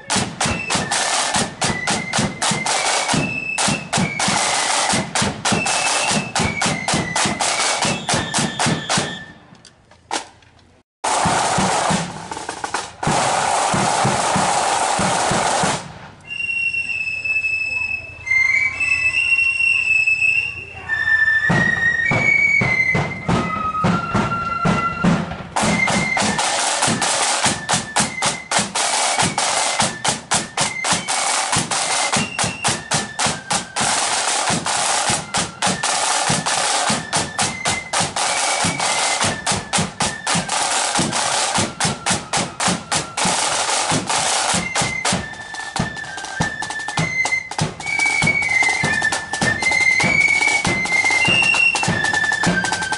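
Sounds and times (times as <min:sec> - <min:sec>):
snare drums playing fast rhythm: 0:00.0 - 0:09.2, 0:11.0 - 0:15.9, 0:22.1 - 0:52.9
flutes playing melody: 0:00.0 - 0:09.6, 0:14.6 - 0:52.9.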